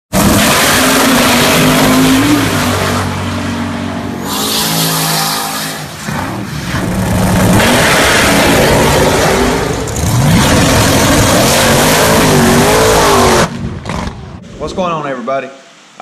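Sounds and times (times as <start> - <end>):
drag-race car engines accelerating: 0.1 - 14.4.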